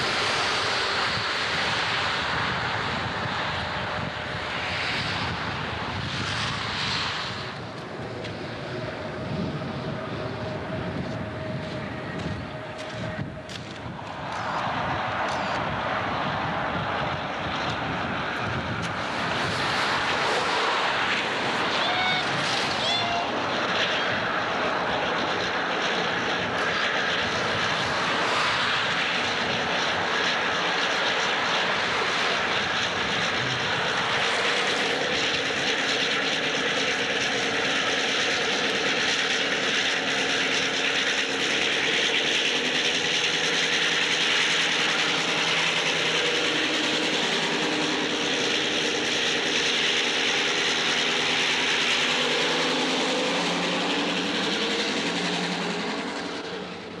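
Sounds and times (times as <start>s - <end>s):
diesel locomotive engines droning: 0.0s - 57.0s.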